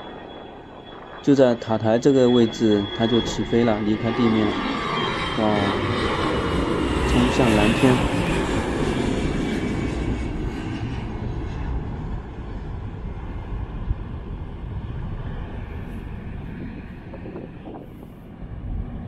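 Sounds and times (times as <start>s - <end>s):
jet airliner engine rumble: 0.0s - 19.0s.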